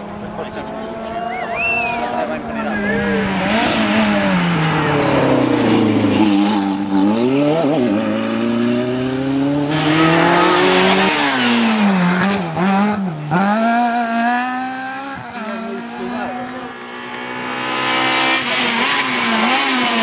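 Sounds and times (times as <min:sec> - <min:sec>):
rally car engine revving: 0:00.0 - 0:20.0
rushing tyre noise: 0:00.0 - 0:20.0.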